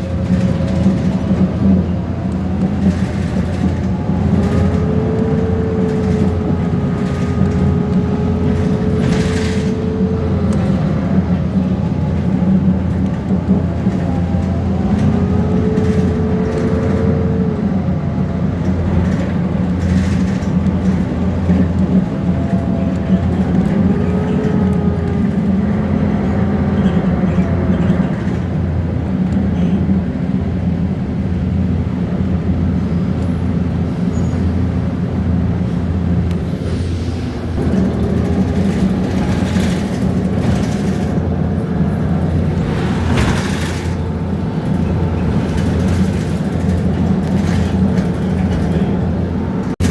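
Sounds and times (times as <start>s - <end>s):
bus diesel engine running: 0.0s - 49.9s
engine whine: 0.0s - 49.9s.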